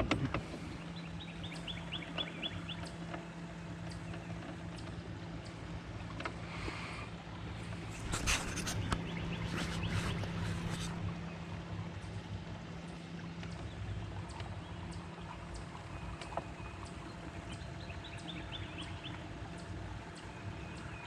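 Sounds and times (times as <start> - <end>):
low hum: 0.0 - 21.0
water lapping: 0.0 - 21.0.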